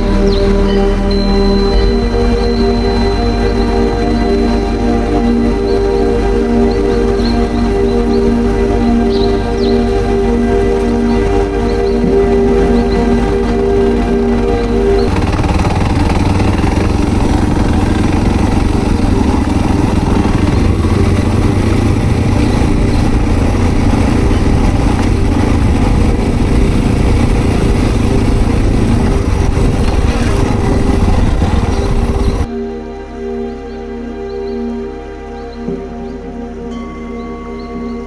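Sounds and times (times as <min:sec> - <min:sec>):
motorcycle engine running: 0:00.0 - 0:32.5
road and wind noise: 0:00.0 - 0:32.5
soft ambient music: 0:00.0 - 0:38.0.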